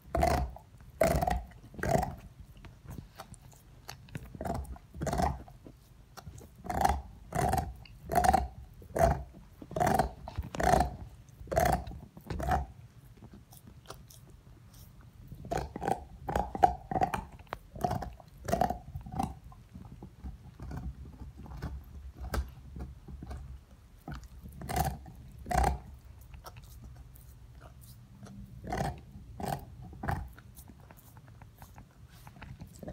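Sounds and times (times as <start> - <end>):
dog gnawing bone: 0.0 - 32.9.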